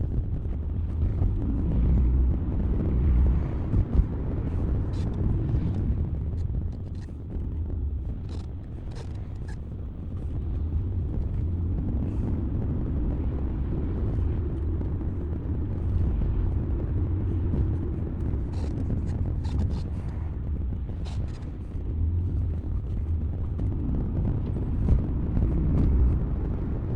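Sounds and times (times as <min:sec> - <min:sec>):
car engine and road rumble: 0:00.0 - 0:26.9.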